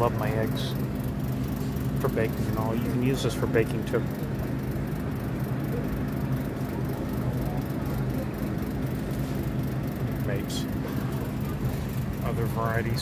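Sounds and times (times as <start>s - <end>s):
refrigerated cases humming: 0.0s - 13.0s.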